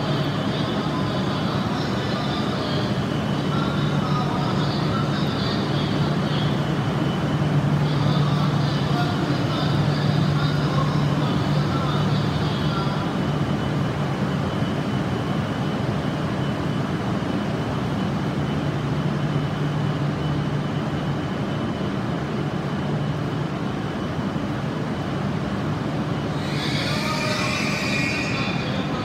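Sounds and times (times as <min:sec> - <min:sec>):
faint high whine: 0:00.0 - 0:29.0
train equipment hum: 0:00.0 - 0:29.0.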